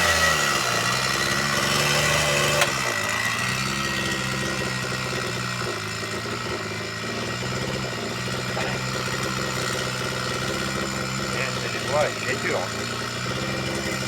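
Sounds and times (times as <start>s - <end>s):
chainsaw engine idling: 0.0s - 14.0s.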